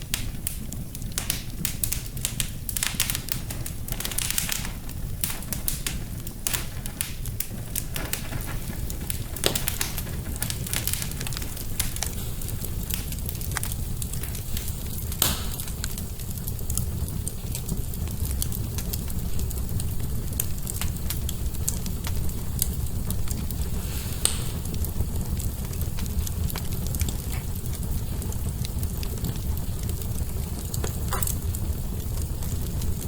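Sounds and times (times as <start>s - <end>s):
fire crackling in a fireplace: 0.0s - 33.0s
loud fire pops: 0.0s - 33.0s.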